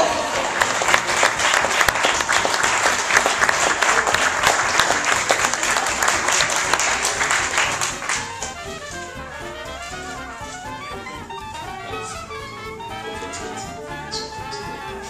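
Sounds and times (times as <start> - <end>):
audience clapping: 0.0 - 15.0.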